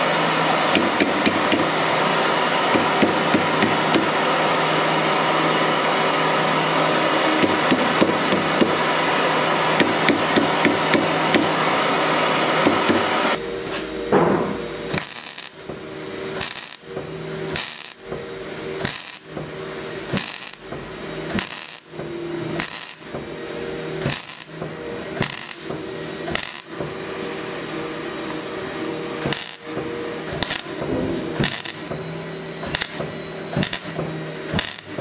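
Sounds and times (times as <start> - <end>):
welder arc crackling: 0.0 - 13.4, 14.8 - 18.2, 18.8 - 23.2, 24.0 - 24.6, 25.2 - 26.8, 29.2 - 32.0, 32.6 - 35.0
steady hum: 0.0 - 35.0.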